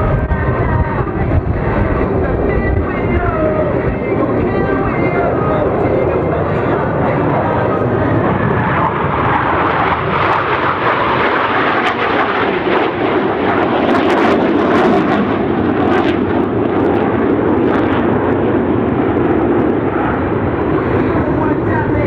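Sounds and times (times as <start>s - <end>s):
jet engines flying past: 0.0s - 22.0s.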